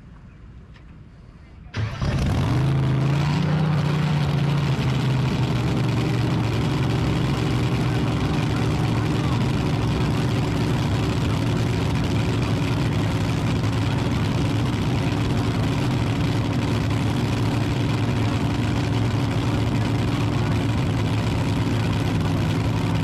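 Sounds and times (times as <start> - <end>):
boat engine idling: 1.8 - 23.0.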